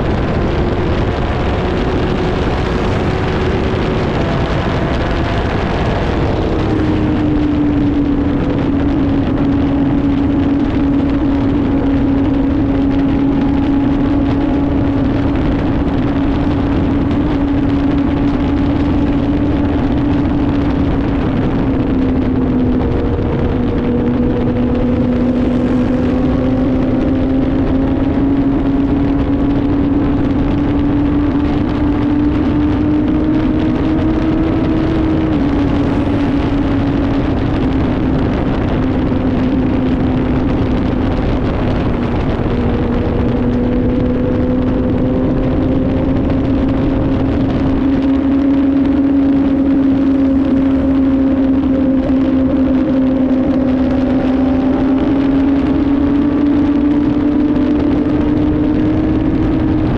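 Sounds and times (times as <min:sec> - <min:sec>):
motorcycle engine cruising: 0:00.0 - 0:59.9
road noise: 0:00.0 - 0:59.9
wind noise on microphone: 0:00.0 - 0:59.9.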